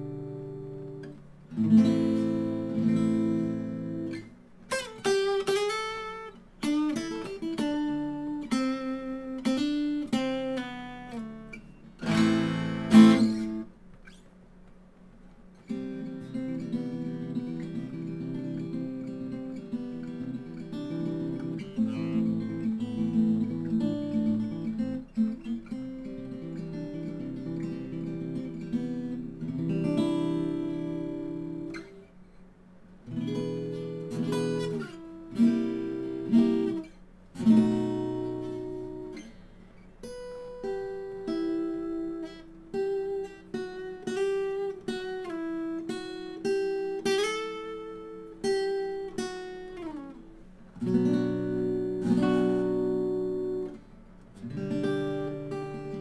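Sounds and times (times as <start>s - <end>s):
acoustic guitar strummed chords: 0.0s - 14.3s, 15.4s - 56.0s
guitar picked melody: 0.0s - 56.0s.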